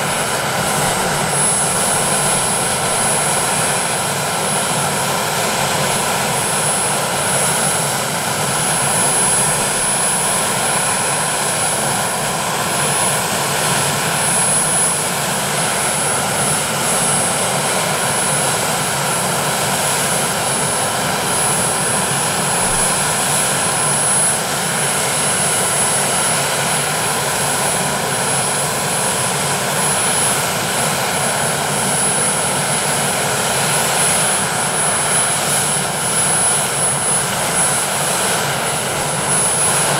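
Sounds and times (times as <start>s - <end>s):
helicopter engines whining: 0.0s - 39.9s.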